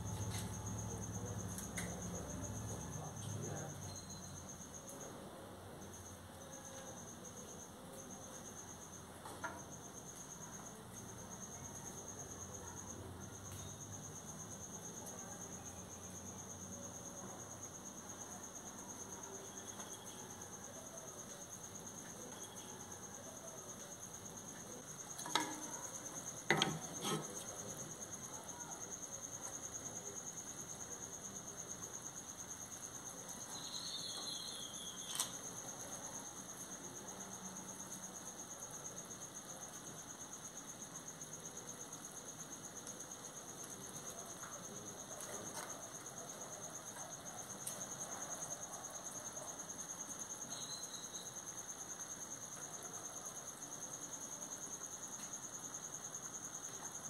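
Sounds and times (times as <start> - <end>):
high-pitched insect trill: 0.0 - 5.2, 5.8 - 57.0.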